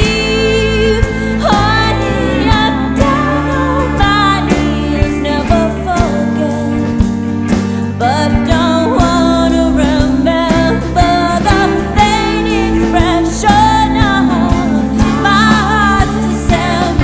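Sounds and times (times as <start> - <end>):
bass and guitar: 0.0 - 17.0
person singing: 0.0 - 17.0
steady drum beat: 0.0 - 17.0.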